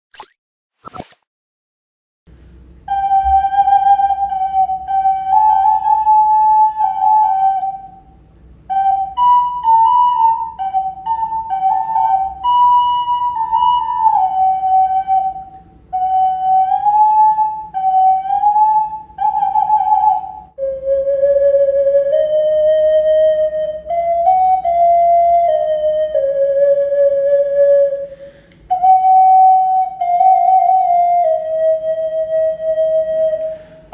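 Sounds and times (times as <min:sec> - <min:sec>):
clay whistle melody: 0:02.8 - 0:33.9.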